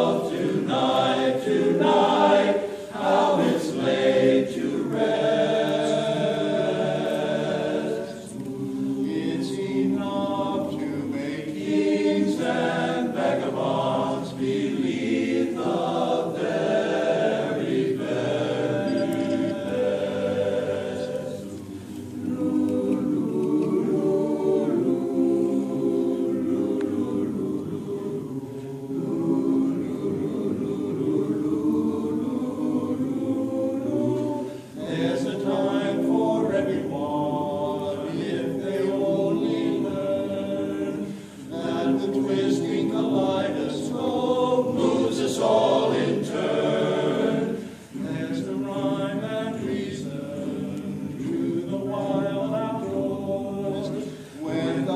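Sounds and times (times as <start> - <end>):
group singing unaccompanied: 0.0 - 54.9.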